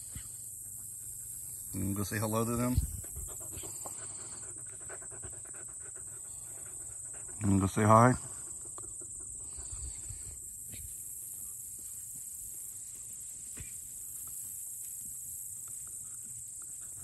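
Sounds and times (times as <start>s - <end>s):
crickets droning: 0.0s - 17.0s
rustles: 0.0s - 17.0s.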